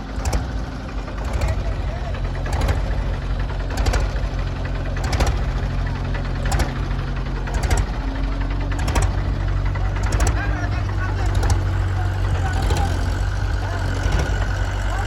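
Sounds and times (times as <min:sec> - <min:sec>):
diesel engine running: 0:00.0 - 0:15.0
sharp engine knocks: 0:00.0 - 0:15.0.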